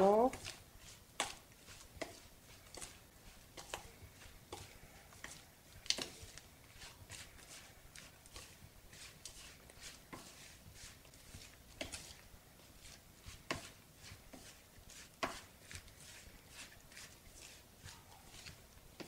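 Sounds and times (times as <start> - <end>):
spoon scraping food in a bowl: 0.1 - 19.0.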